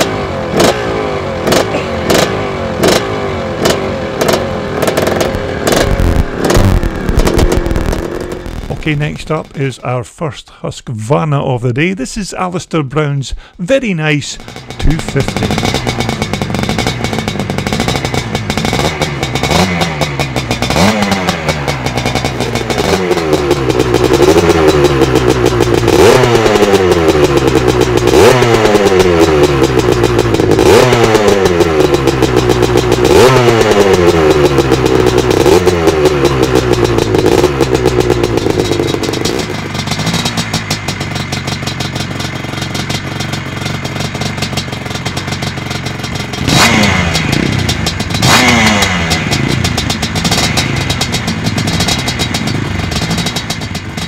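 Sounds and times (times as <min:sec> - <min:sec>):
dirt bike engine revving: 0:00.0 - 0:09.7, 0:14.3 - 0:54.0.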